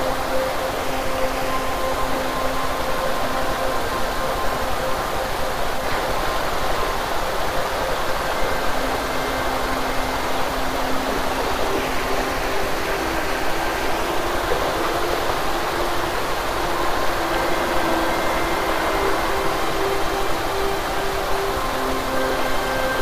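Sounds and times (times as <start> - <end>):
faint steady hum: 0.0 - 23.0
stream water rushing over rocks: 0.0 - 23.0.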